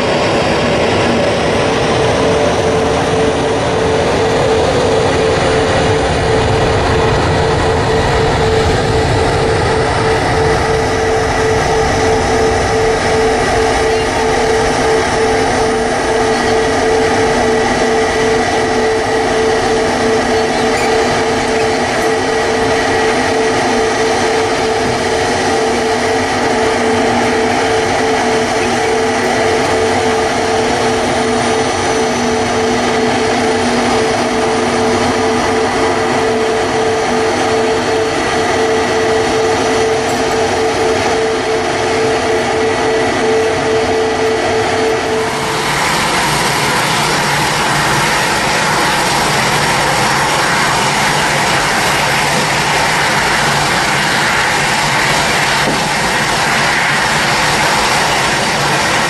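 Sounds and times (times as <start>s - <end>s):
bright jet engine rush: 0.0s - 59.0s
jet engines roaring with whine: 0.0s - 59.0s.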